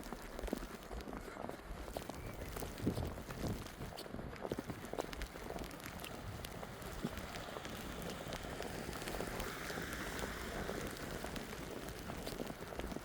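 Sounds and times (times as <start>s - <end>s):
crackling patter of snow: 0.0s - 13.0s.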